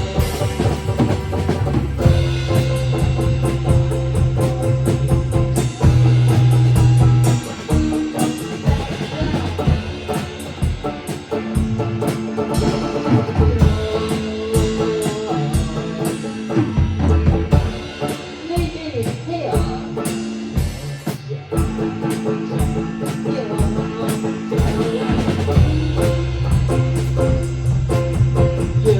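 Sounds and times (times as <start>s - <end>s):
drum kit beat: 0.0s - 28.9s
rock band playing: 0.0s - 28.9s.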